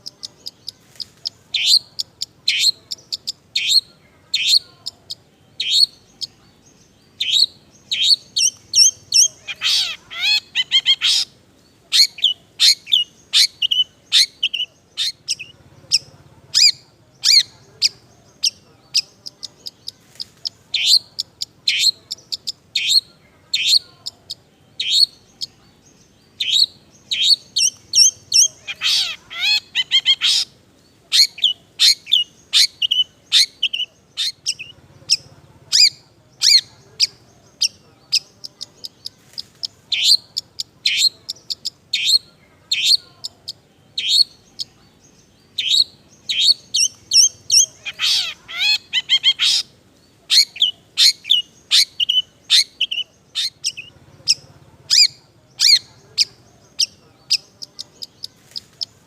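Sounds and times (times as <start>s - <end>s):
bird chattering song: 0.0s - 59.0s
harsh rattling bird call: 7.2s - 59.0s.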